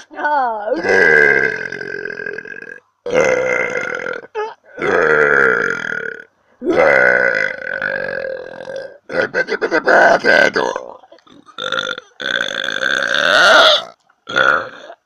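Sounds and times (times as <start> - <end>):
woman burping: 0.6 - 9.3, 10.7 - 15.0.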